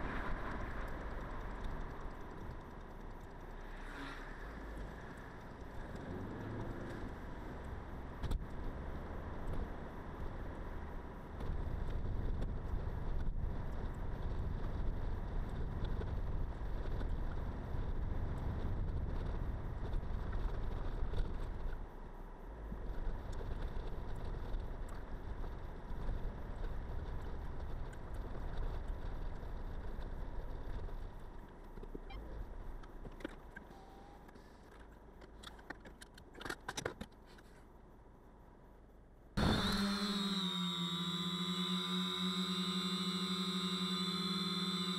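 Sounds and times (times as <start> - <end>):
rumble of tyres and suspension: 0.0 - 44.9.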